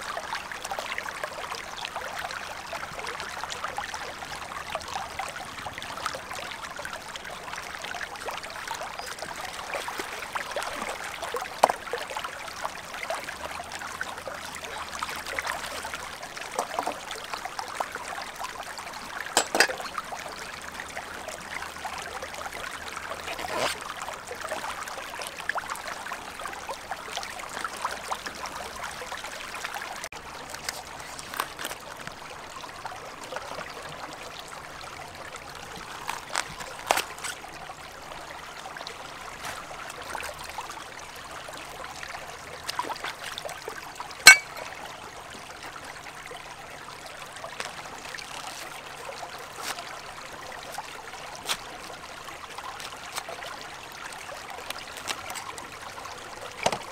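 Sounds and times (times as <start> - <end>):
river water trickling over stones: 0.0 - 56.9.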